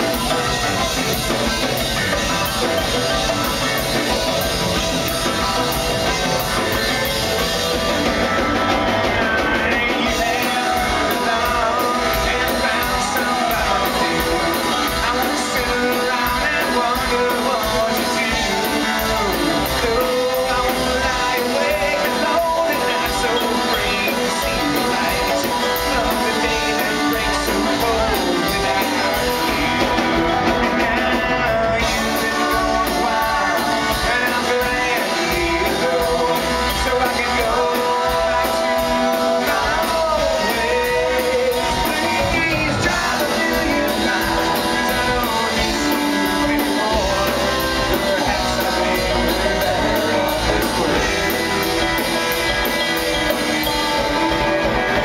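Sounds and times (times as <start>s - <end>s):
bluegrass band playing: 0.0s - 55.0s
person singing lead: 0.0s - 55.0s.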